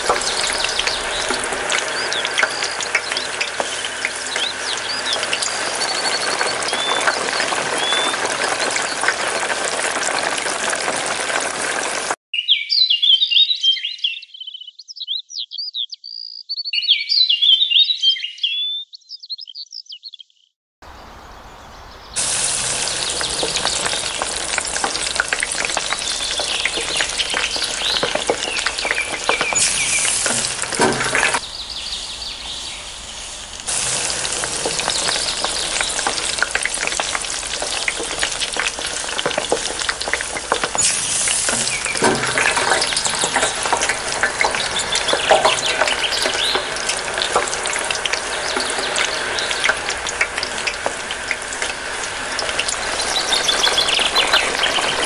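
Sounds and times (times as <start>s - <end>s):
bird chirps: 0.0s - 9.1s, 12.4s - 50.8s, 52.4s - 55.0s
fish sizzling in hot oil: 0.0s - 12.2s, 22.2s - 55.0s.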